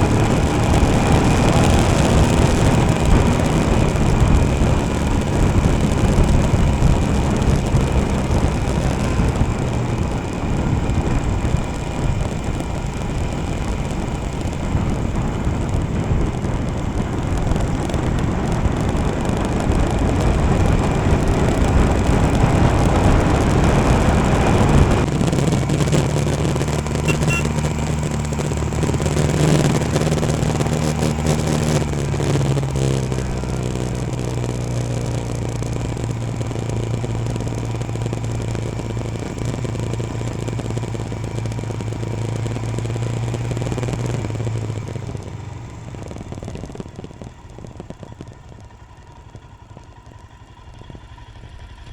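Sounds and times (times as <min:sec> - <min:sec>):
motorcycle engine running: 0:00.0 - 0:51.9
road rumble: 0:00.0 - 0:51.9.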